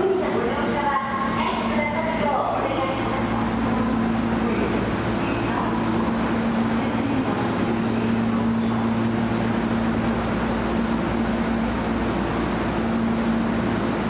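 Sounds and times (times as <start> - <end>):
constant low hum: 0.0 - 14.0
subway train rumble: 0.0 - 14.0.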